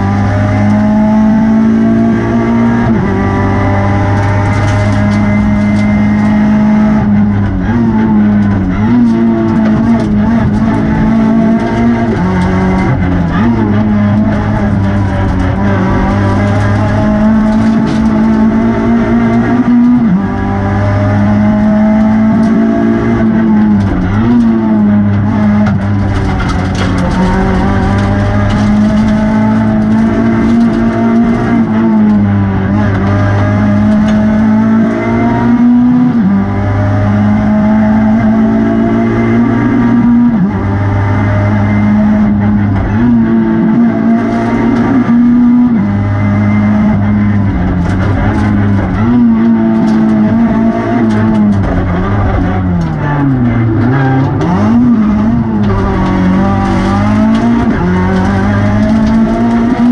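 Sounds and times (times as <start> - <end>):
rally car engine shifting gears: 0.0 - 59.9.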